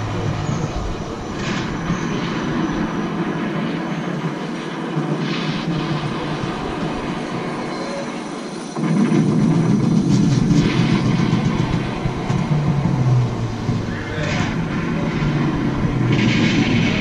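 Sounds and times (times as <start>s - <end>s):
aircraft-like rumble: 0.0s - 17.0s.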